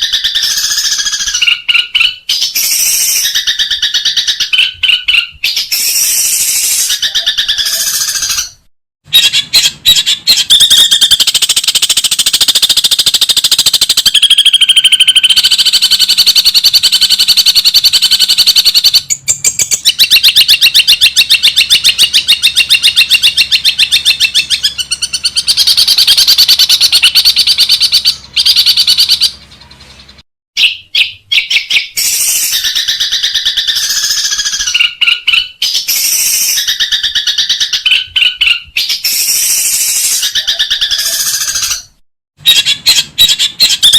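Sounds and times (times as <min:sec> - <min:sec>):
bird rapid chattering song: 0:00.0 - 0:43.9.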